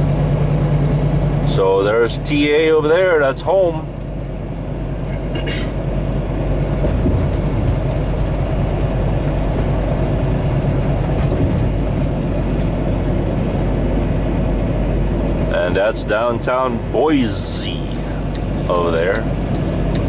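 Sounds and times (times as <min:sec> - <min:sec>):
diesel truck engine drone: 0:00.0 - 0:20.0.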